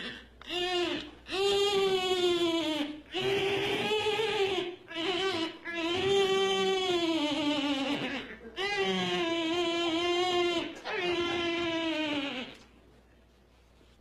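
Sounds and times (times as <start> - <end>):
baby-like crying wails: 0.5 - 12.6.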